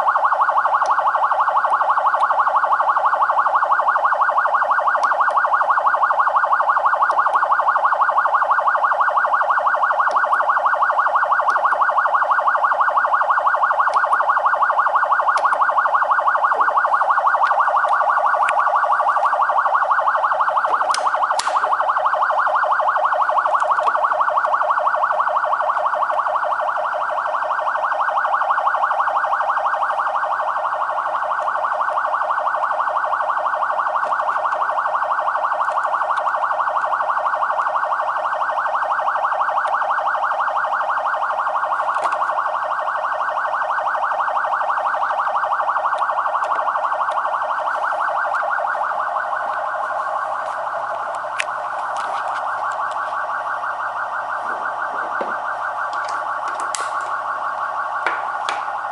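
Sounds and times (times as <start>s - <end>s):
police siren fast warble: 0.0s - 58.9s.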